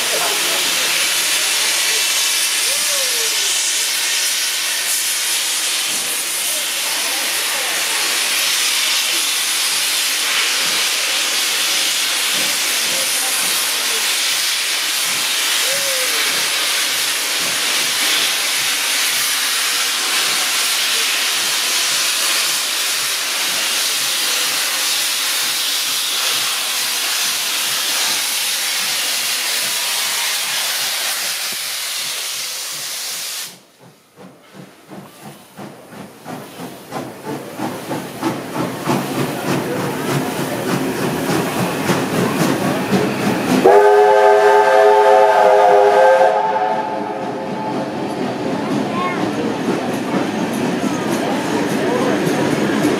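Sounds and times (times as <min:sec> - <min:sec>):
steam locomotive hissing: 0:00.0 - 0:52.9.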